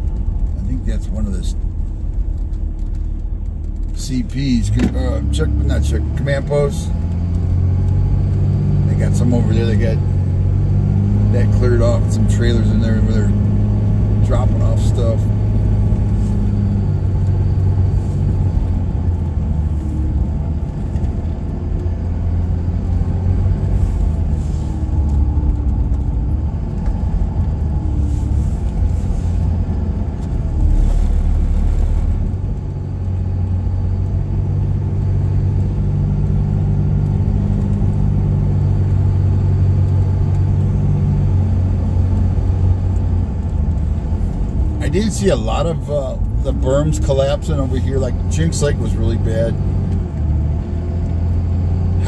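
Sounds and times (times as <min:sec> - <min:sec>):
car interior engine rumble: 0:00.0 - 0:52.0.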